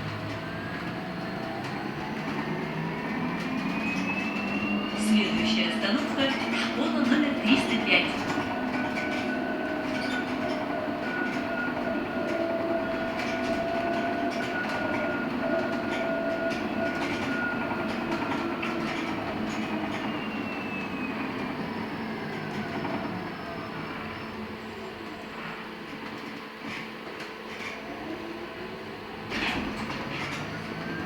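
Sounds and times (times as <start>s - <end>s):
electric bus motor whine: 0.0s - 31.0s.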